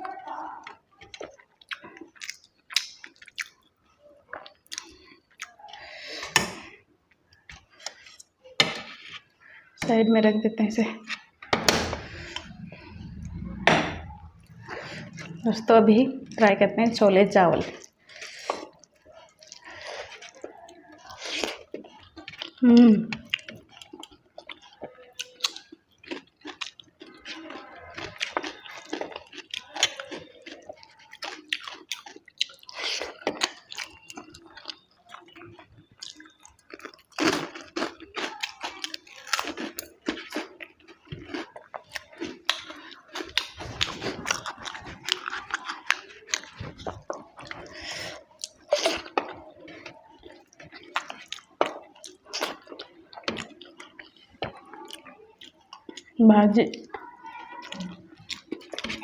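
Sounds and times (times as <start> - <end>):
person chewing crunchy food: 0.0 - 9.6, 11.0 - 59.0.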